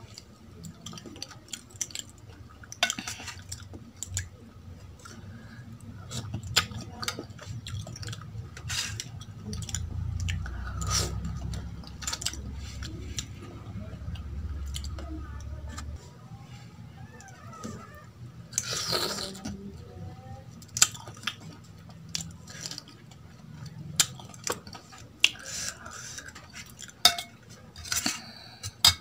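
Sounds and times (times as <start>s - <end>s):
chewing and wet mouth sounds: 0.0s - 29.0s.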